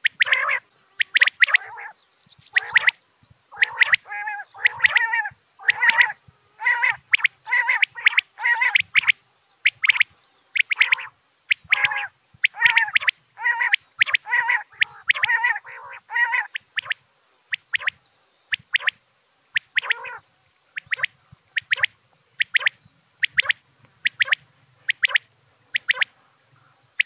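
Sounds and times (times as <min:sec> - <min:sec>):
quail calling: 0:00.0 - 0:27.0.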